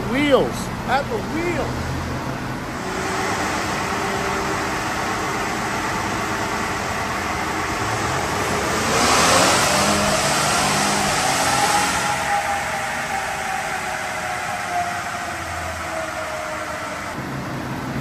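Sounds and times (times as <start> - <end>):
engine running under load: 0.0 - 18.0.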